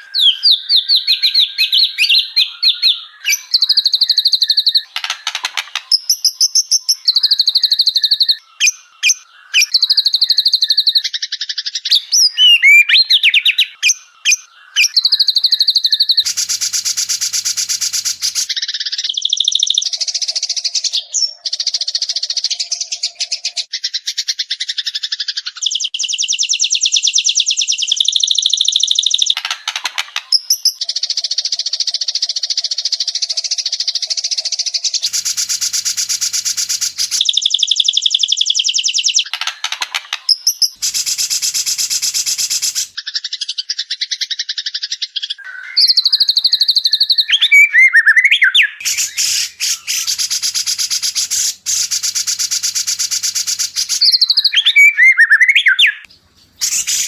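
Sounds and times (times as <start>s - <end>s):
bird trilling song: 0.0s - 57.0s.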